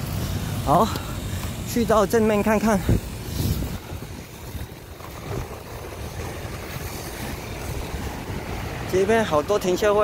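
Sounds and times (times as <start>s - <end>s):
road traffic: 0.0s - 10.0s
wind buffeting microphone: 0.0s - 10.0s.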